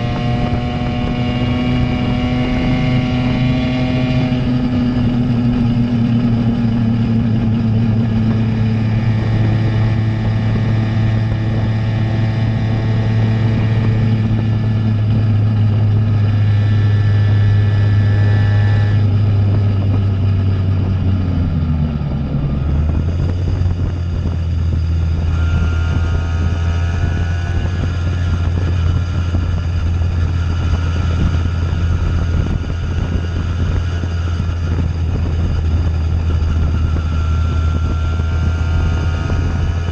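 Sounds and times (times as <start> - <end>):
two-stroke moped engine: 0.0 - 39.9.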